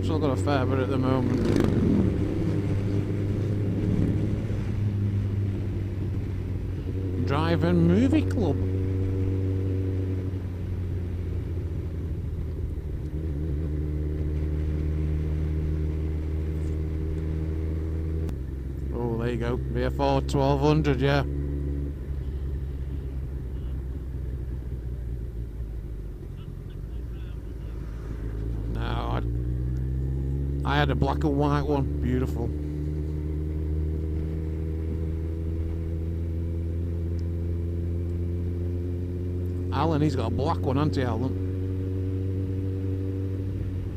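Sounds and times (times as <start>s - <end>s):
motorcycle engine humming: 0.0s - 43.9s.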